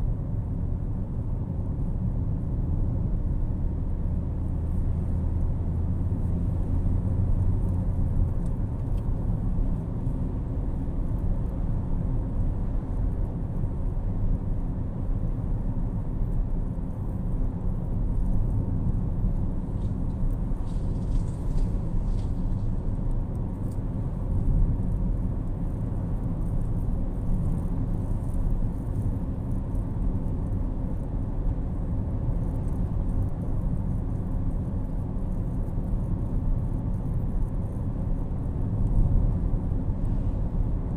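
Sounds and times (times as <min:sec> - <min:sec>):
car tyres and engine rumble: 0:00.0 - 0:40.9.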